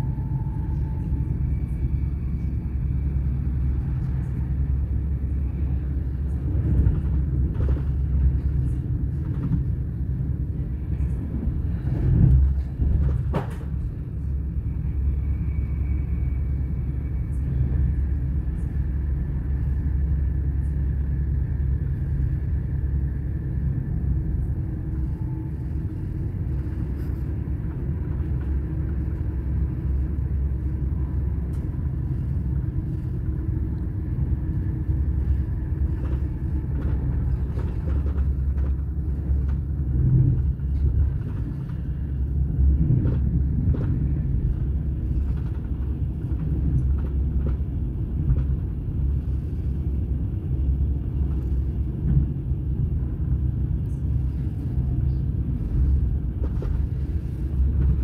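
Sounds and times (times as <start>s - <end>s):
low rumble of wheels on rail: 0.0s - 58.0s.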